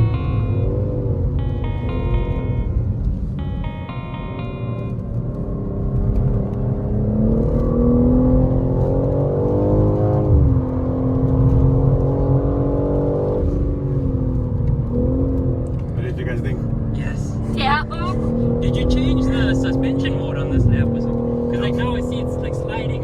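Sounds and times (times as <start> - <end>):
car engine accelerating through gears: 0.0 - 23.0.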